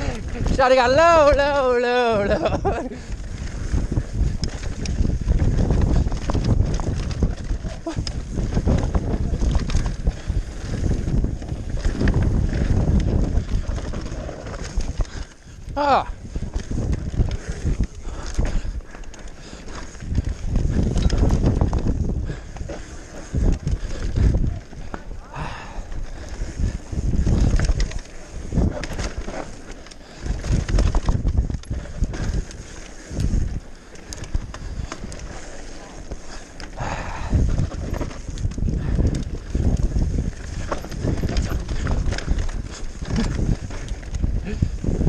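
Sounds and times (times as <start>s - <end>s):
bike clicks and rattles: 0.0s - 45.0s
mountain bike rumble on dirt: 0.0s - 45.0s
wind buffeting microphone: 0.0s - 45.0s.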